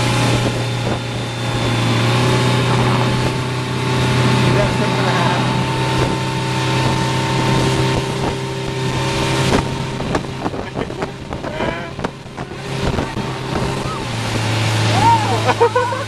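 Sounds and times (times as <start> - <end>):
wind buffeting microphone: 0.0 - 15.6
motorboat engine running: 0.0 - 16.0
rush of boat wake: 0.0 - 16.0.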